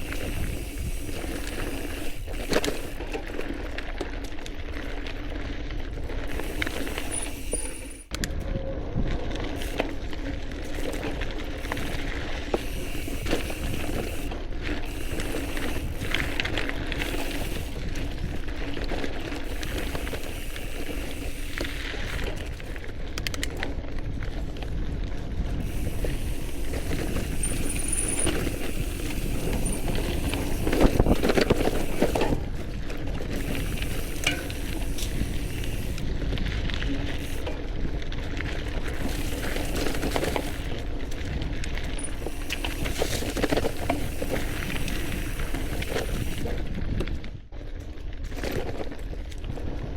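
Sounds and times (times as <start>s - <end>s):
bike clicking and rattling: 0.0s - 49.9s
bike tyres rumbling on dirt: 0.0s - 49.9s.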